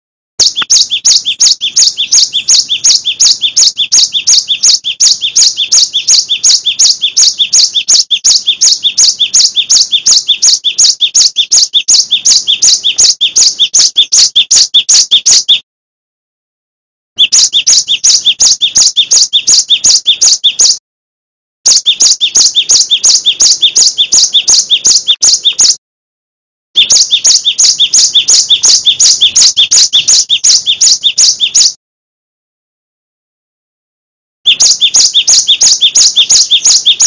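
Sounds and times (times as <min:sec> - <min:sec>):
bird singing whistled notes: 0:00.4 - 0:15.6, 0:17.2 - 0:20.8, 0:21.7 - 0:25.8, 0:26.8 - 0:31.8, 0:34.5 - 0:37.0.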